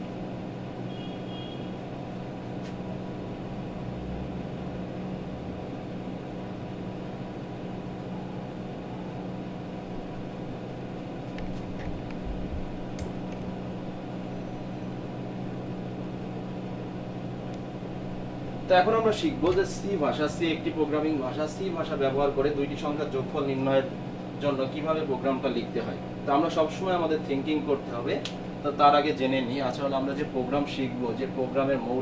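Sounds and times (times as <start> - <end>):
room machinery hum: 0.0 - 32.0.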